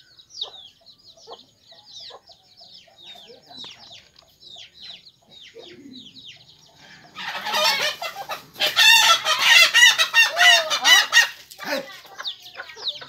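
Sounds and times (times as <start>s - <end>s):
chicks peeping: 0.0s - 13.0s
rapid chicken calls: 0.0s - 13.0s.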